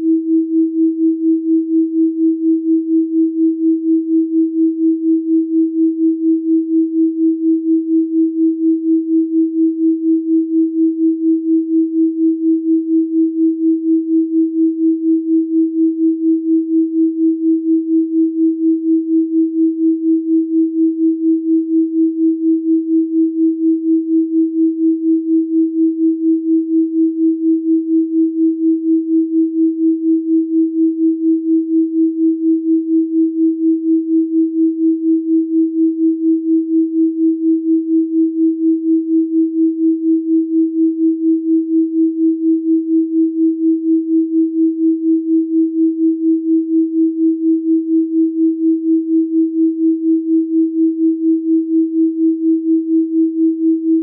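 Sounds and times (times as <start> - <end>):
pulsing electronic pure tone: 0.0 - 54.0.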